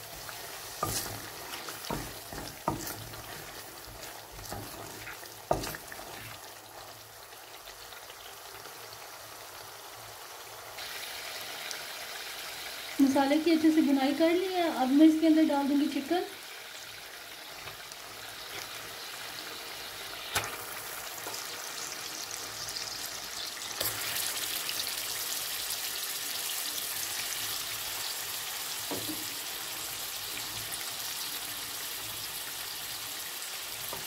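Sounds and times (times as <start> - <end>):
chicken sizzling in hot oil: 0.0 - 34.0.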